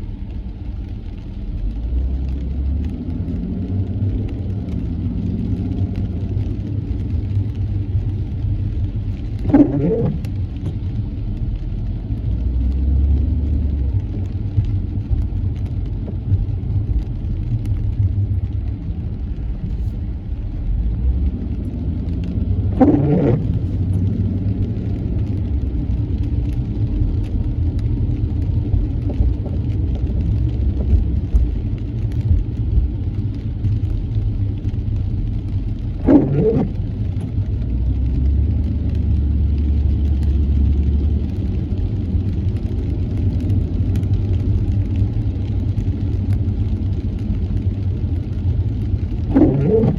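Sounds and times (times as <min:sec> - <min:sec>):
car engine and tyres rumbling: 0:00.0 - 0:49.9
windshield wipers sweeping: 0:00.2 - 0:49.9.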